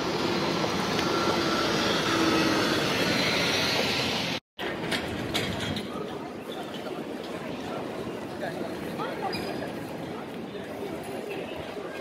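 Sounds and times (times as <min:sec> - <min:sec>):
city street traffic rushing: 0:00.0 - 0:12.0.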